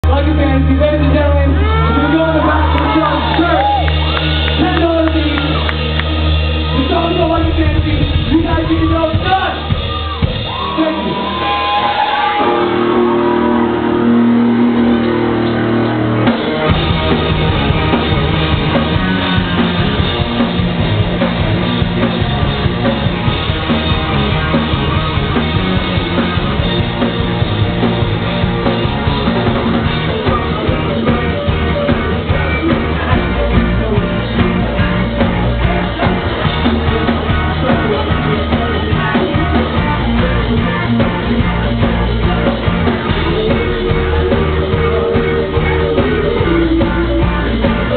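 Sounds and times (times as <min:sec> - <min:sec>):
bass guitar: 0:00.0 - 0:47.9
drum kit: 0:00.0 - 0:47.9
electric guitar: 0:01.0 - 0:47.9.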